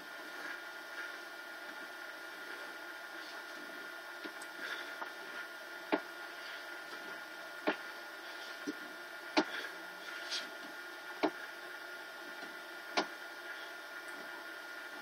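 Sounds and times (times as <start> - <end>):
faint high whine: 0.0 - 15.0
steady hiss: 0.0 - 15.0.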